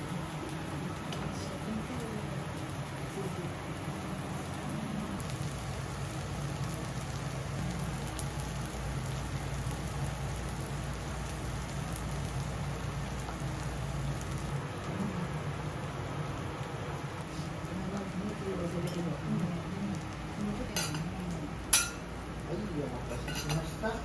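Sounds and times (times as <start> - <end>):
food sizzling on a griddle: 0.0 - 24.0.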